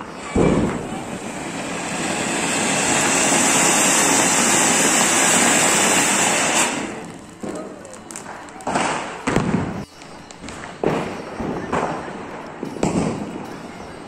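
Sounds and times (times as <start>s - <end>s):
firework fountain hissing: 0.0s - 14.0s.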